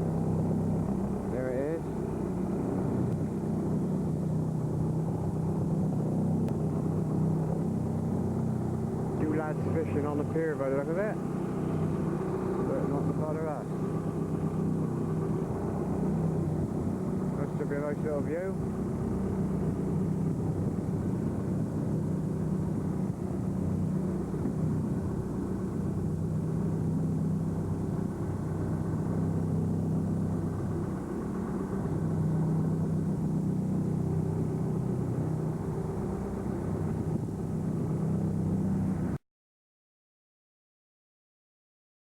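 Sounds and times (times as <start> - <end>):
boat engine droning: 0.0 - 39.2.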